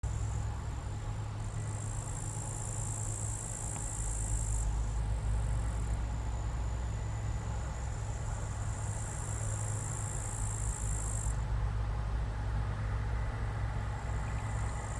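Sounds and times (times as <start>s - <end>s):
combine harvester low drone: 0.0s - 14.9s.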